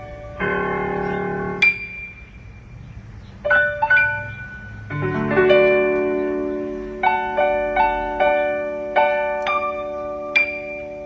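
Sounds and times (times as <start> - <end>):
piano keyboard notes and chords: 0.0 - 11.0.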